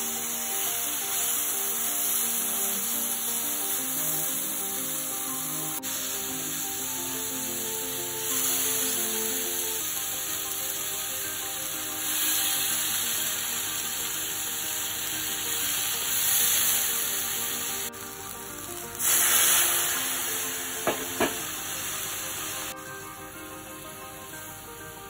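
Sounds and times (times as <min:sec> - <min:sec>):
background music with held notes: 0:00.0 - 0:25.0
water sizzling in a hot pan: 0:00.0 - 0:25.0.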